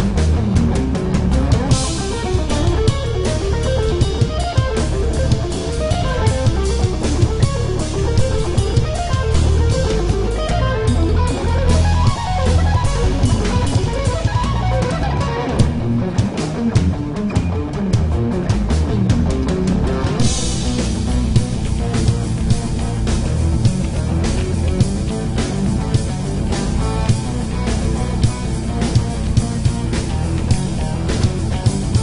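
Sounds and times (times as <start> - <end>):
drum kit: 0.0 - 32.0
electric bass: 0.0 - 32.0
electric guitar fast run: 0.0 - 32.0.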